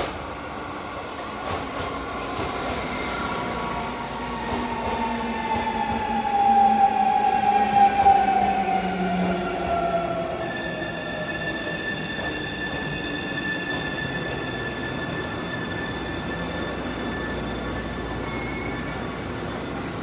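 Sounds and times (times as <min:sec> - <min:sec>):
train wheels running: 0:00.0 - 0:20.0.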